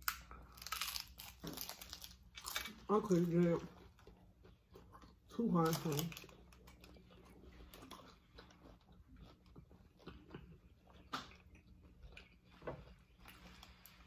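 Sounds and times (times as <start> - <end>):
chewing and crunching tacos: 0.0 - 14.0.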